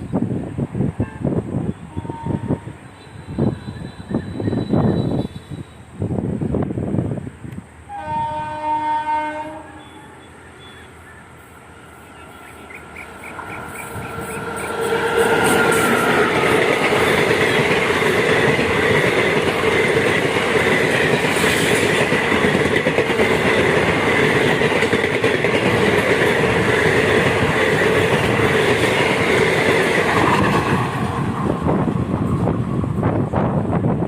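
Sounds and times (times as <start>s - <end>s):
train passing at speed: 0.0s - 34.0s.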